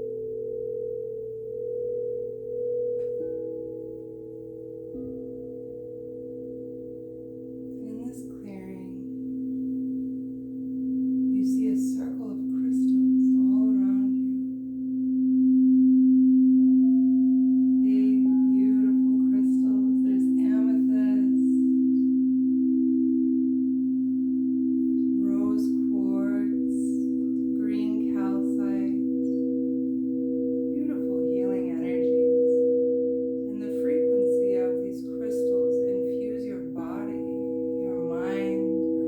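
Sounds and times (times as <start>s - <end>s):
singing bowls ringing: 0.0s - 39.0s.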